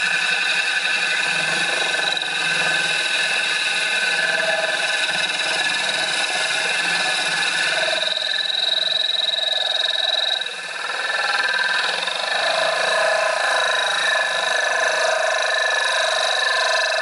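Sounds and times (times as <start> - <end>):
electric drill whining: 0.0 - 17.0.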